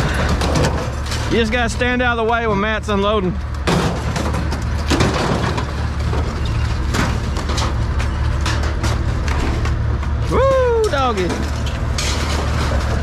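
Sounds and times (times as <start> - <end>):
scrap metal clattering and crashing: 0.0 - 13.0
truck engine running: 0.0 - 13.0.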